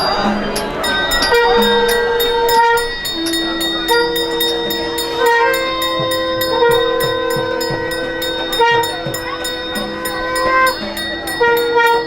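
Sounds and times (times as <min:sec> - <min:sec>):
drum and cymbal strokes: 0:00.0 - 0:12.0
nadaswaram reed notes: 0:00.0 - 0:12.0
steady drone: 0:00.0 - 0:12.0.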